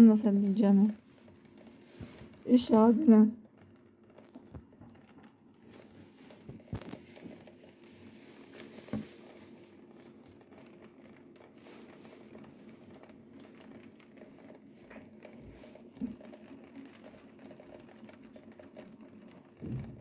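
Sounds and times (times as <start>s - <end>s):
heavy rain through a window: 0.0s - 20.0s.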